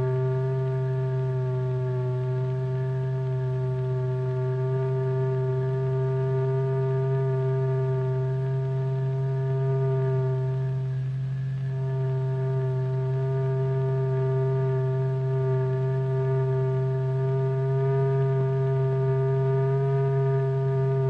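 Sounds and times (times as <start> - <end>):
low electronic tone: 0.0 - 21.0.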